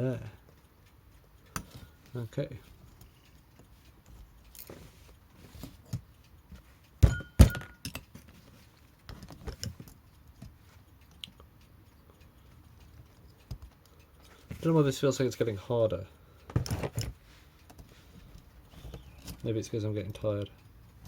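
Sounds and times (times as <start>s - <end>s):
light clicks of metal parts: 0.0s - 21.0s.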